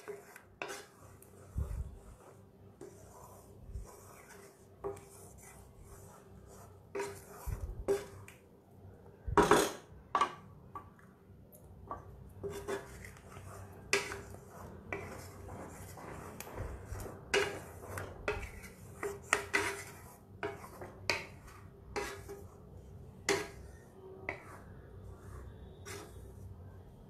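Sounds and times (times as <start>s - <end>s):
spatula scraping a metal pan: 0.0s - 8.3s, 9.4s - 9.9s, 12.4s - 27.0s.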